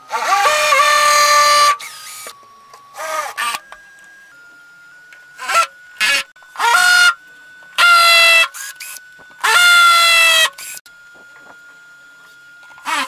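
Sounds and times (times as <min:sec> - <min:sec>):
cordless drill motor whine: 0:00.0 - 0:13.0.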